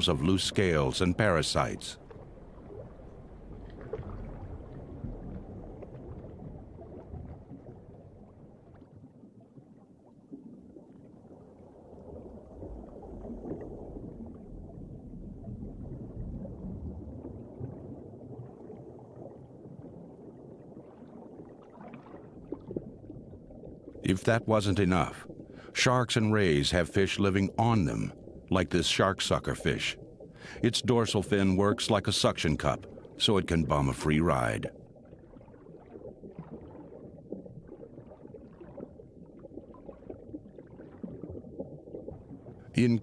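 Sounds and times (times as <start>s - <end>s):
muffled underwater water noise: 0.0s - 43.0s.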